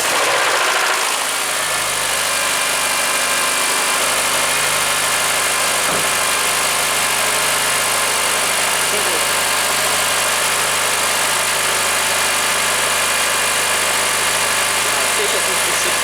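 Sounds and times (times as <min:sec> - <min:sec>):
car engine idling: 0:01.3 - 0:16.0.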